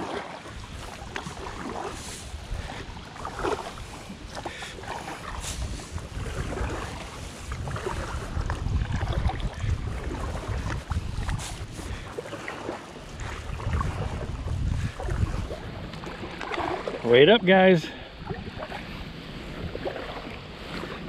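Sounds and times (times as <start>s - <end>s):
paddle strokes splashing water: 0.0s - 21.0s
wind buffeting microphone: 0.0s - 21.0s.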